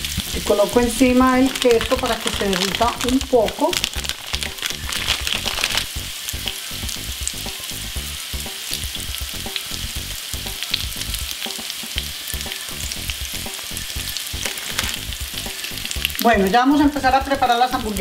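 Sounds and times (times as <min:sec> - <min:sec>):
meat sizzling in grill pan: 0:00.0 - 0:18.0.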